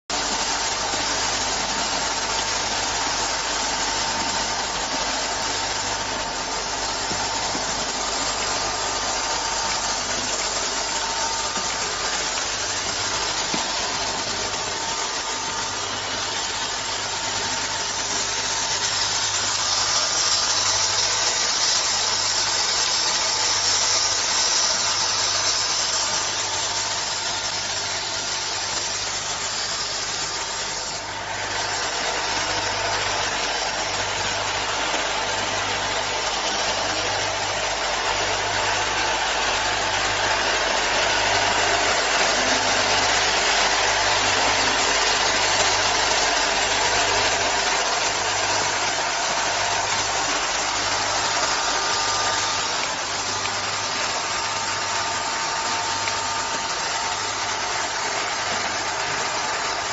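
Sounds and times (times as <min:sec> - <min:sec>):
machine clattering and hissing: 0:00.1 - 0:59.9.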